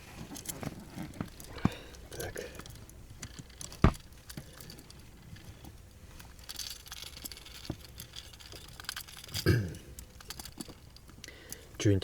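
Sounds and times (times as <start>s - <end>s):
light clicks and rustling: 0.0s - 12.0s.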